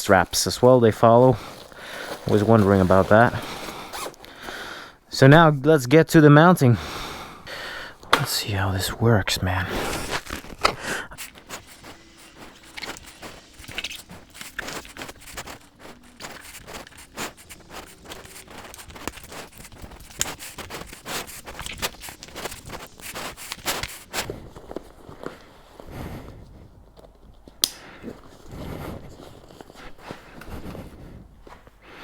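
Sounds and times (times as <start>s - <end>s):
soft bag and straps being handled: 0.0s - 4.5s, 8.2s - 31.8s.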